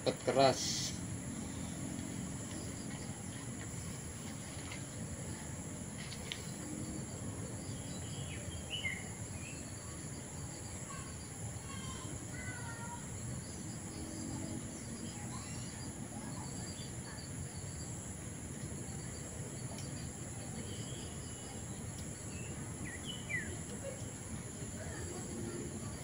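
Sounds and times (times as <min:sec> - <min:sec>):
high-pitched insect drone: 0:00.0 - 0:03.0, 0:06.5 - 0:26.0.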